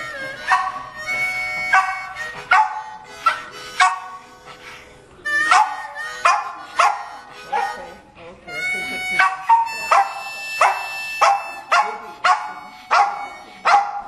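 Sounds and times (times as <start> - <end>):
blues harmonica long notes: 0.0 - 13.7.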